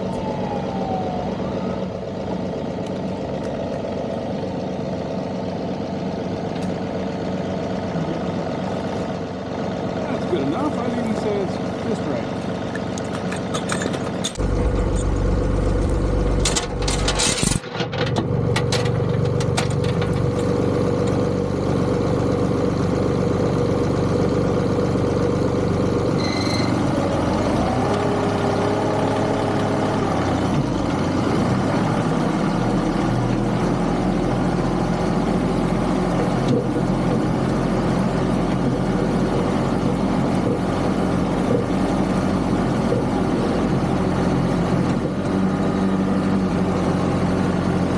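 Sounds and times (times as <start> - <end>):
tractor diesel engine idling: 0.0 - 17.6, 18.2 - 47.9.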